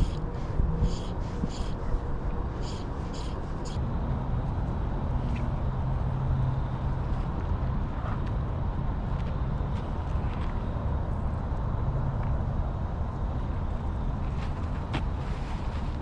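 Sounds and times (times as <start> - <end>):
passing vehicle engine hum: 0.0 - 16.0.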